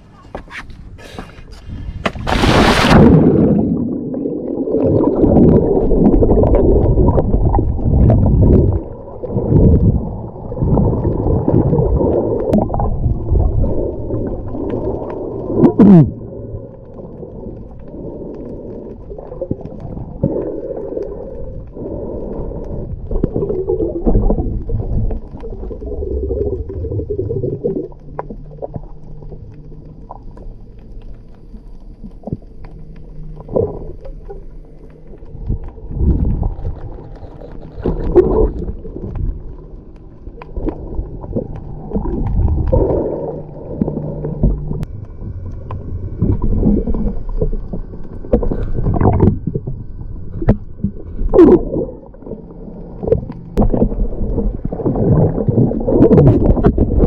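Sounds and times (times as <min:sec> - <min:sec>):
churning water and bubbles underwater: 0:00.0 - 0:57.0.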